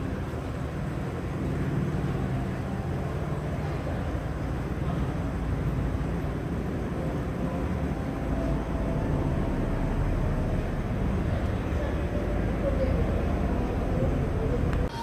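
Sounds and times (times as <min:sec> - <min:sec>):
low rumble of terminal background: 0:00.0 - 0:15.0.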